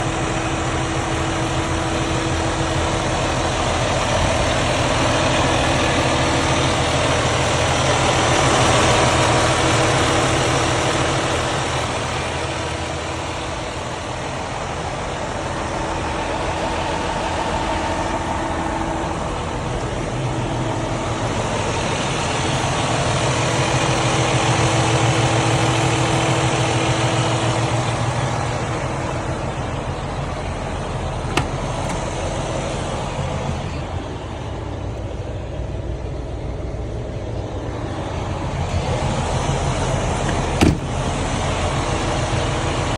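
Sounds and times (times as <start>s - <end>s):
diesel truck engine rumbling: 0.0s - 42.9s.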